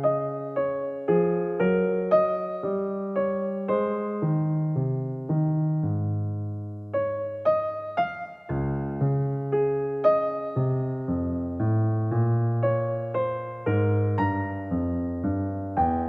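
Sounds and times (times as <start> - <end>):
gentle electric piano melody: 0.0 - 16.0.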